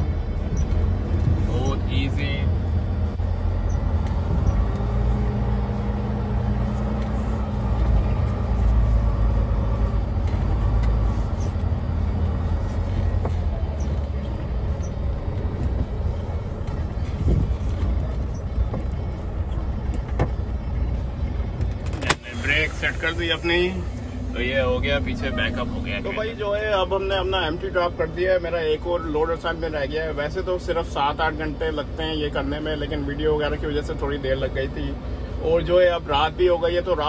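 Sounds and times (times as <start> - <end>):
diesel truck engine rumbling: 0.0 - 37.0.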